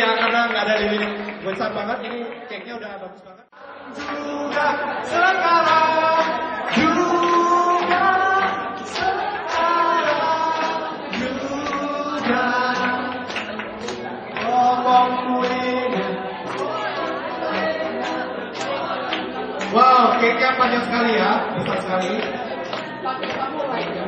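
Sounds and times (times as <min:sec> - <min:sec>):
music: 0:00.0 - 0:02.0, 0:03.6 - 0:24.0.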